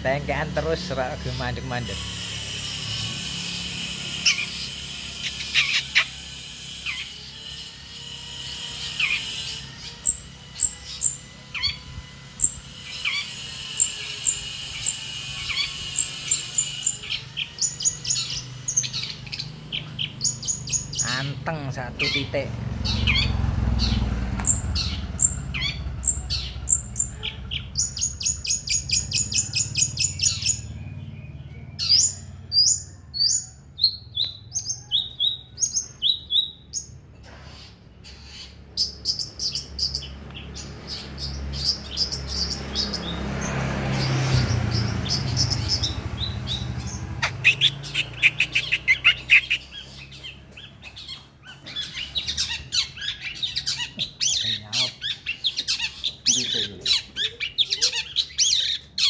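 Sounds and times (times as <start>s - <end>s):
bird singing chirps and trills: 0.0s - 59.0s.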